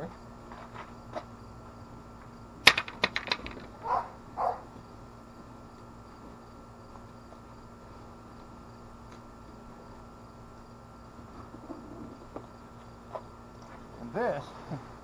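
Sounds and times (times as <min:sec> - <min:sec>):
faint background hum: 0:00.0 - 0:15.0.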